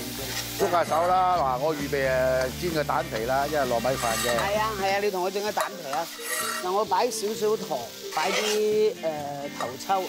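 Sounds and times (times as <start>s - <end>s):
rice sizzling: 0.0s - 10.0s
metal spatula scraping wok: 0.2s - 6.9s, 7.6s - 9.8s.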